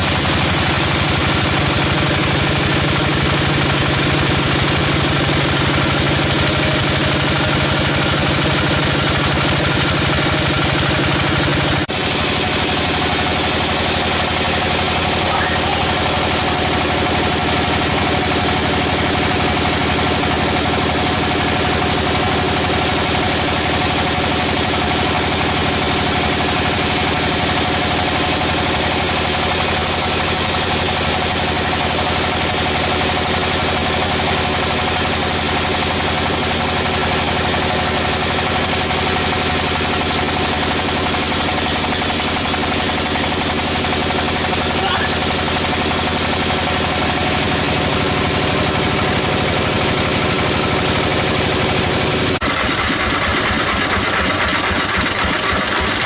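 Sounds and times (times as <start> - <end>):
sawmill machinery hum: 0.0 - 56.0.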